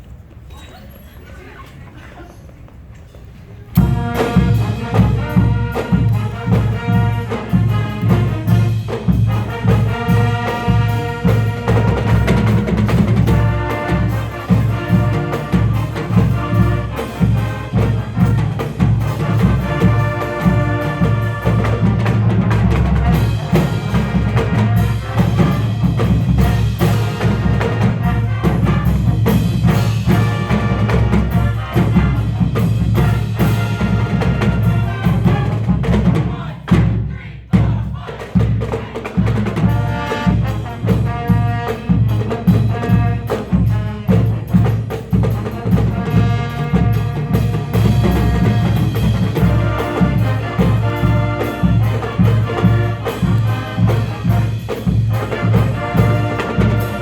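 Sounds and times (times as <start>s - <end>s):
marching band brass: 3.5s - 57.0s
driving drum beat: 3.8s - 57.0s.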